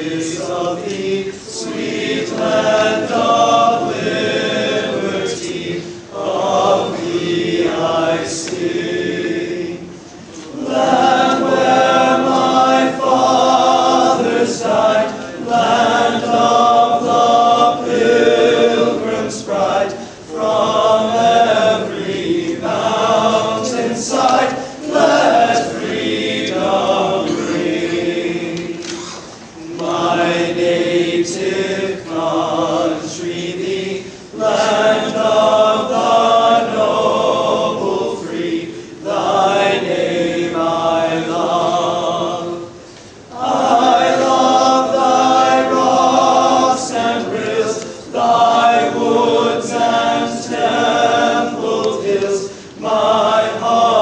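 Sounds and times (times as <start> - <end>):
boys choir singing: 0.0 - 54.0.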